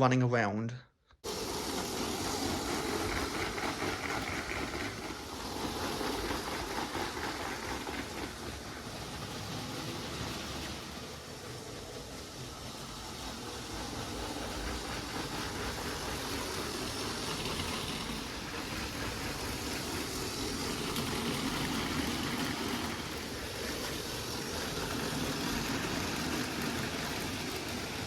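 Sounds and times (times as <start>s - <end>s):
toy train whirring on track: 1.2s - 28.0s.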